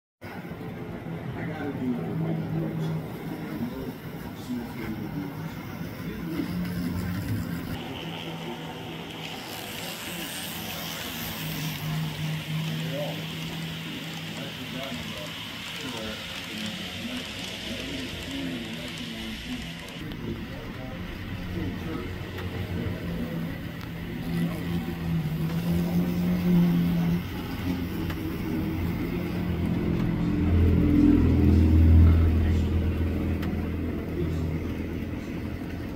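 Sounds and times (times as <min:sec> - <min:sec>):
model train passing: 0:00.3 - 0:35.9.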